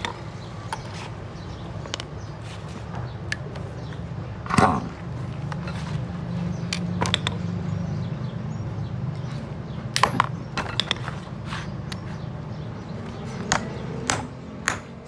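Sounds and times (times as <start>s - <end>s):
metal tools clinking: 0.0s - 7.4s, 9.9s - 15.0s.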